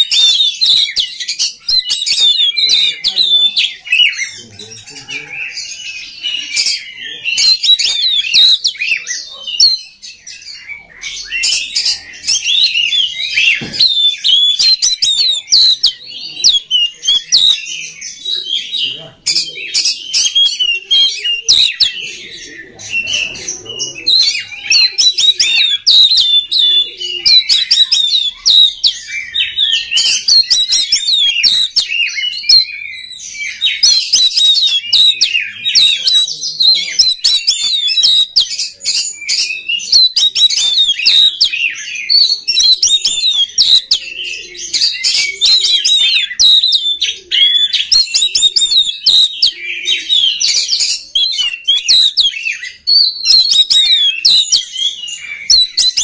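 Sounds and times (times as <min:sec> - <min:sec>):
bird singing chirps and whistles: 0:00.0 - 0:56.0.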